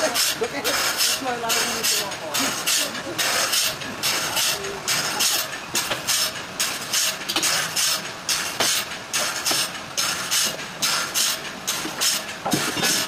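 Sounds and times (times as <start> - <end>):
sawmill machinery rhythmic hissing: 0.0 - 13.0.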